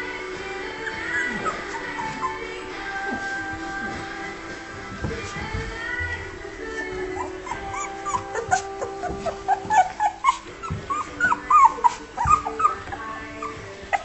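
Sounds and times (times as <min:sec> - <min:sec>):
puppies whimpering and squeaking: 0:00.6 - 0:04.4, 0:06.6 - 0:14.0.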